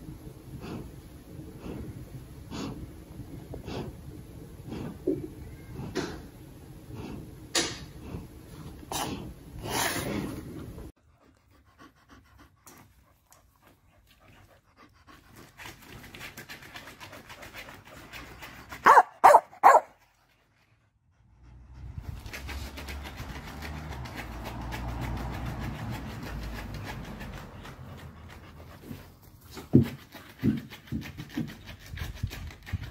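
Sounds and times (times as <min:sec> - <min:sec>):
dog breathing heavily: 0:00.4 - 0:19.0, 0:19.6 - 0:32.9
dog panting: 0:00.5 - 0:32.9.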